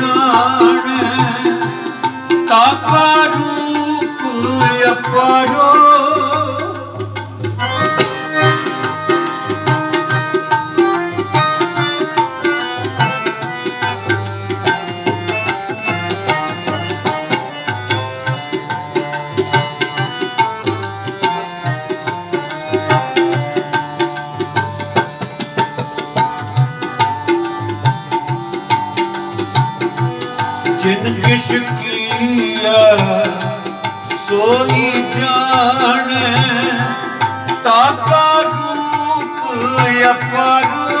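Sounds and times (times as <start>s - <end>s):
harmonium melody: 0.0s - 41.0s
tabla rhythm: 0.0s - 41.0s.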